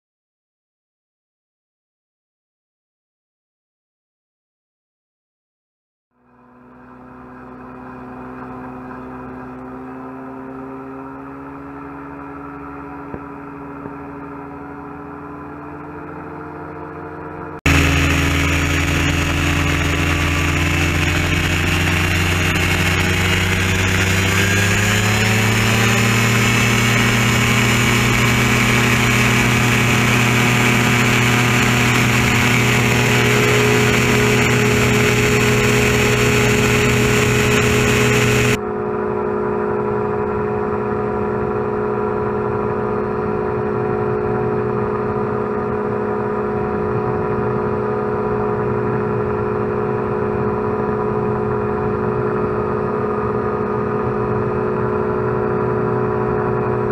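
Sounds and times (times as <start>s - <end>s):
gyroplane engine and propeller: 6.1s - 56.9s.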